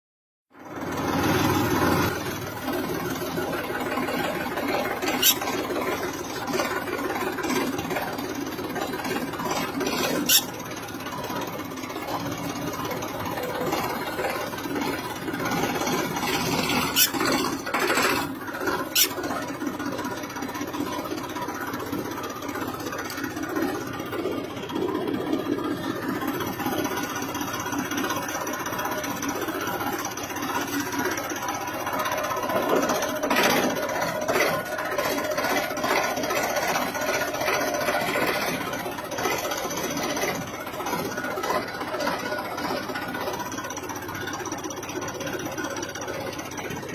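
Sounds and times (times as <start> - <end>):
tractor engine running: 0.5 - 46.9.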